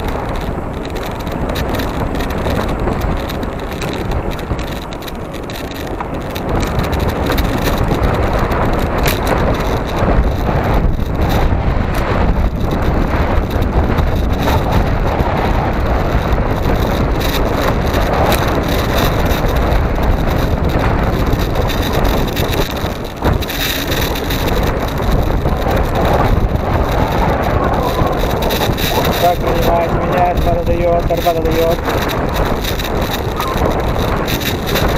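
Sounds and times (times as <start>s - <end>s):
tyres rolling on asphalt: 0.0s - 34.9s
wind buffeting microphone: 0.0s - 34.9s.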